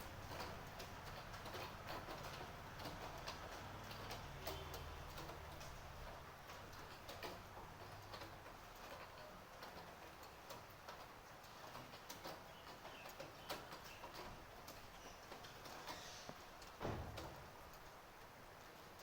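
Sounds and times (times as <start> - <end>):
light rain hiss: 0.0 - 19.0.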